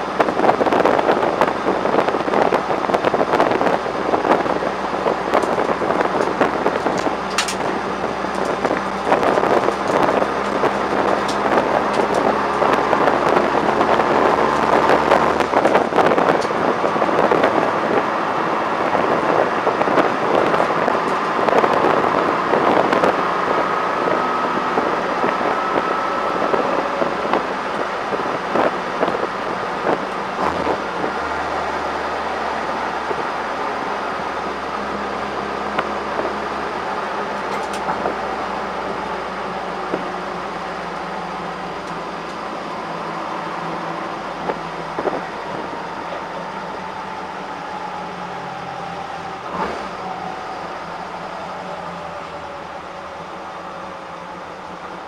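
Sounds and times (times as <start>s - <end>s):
car engine and induction roar: 0.0s - 55.0s
engine crackles: 0.0s - 55.0s.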